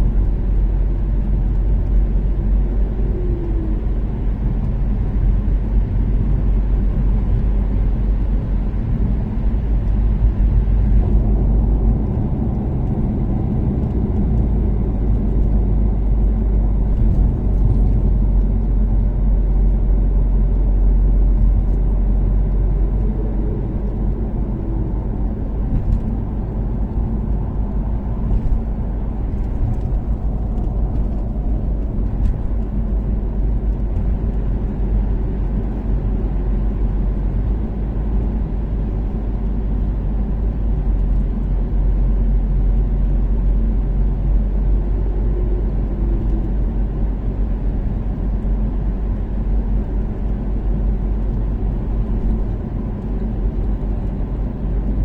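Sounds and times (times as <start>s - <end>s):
car engine drone: 0.0s - 55.0s
road rumble: 0.0s - 55.0s.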